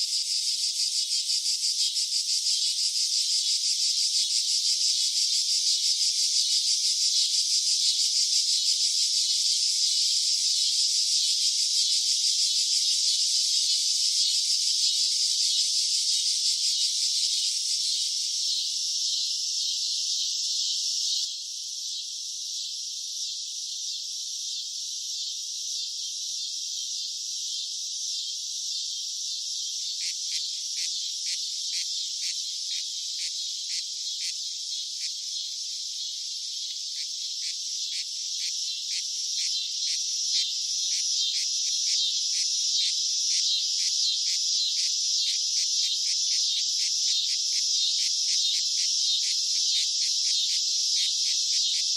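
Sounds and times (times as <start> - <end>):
cicadas buzzing: 0.0 - 51.9.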